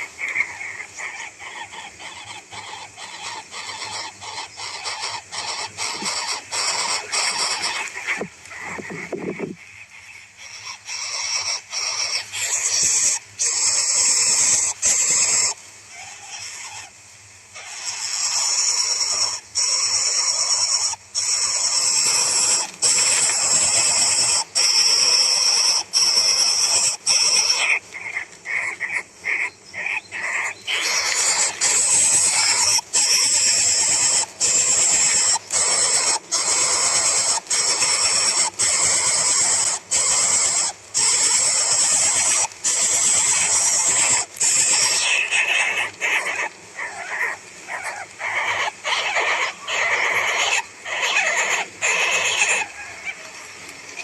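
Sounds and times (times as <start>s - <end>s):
animal squealing: 0.0s - 9.6s, 17.6s - 53.3s.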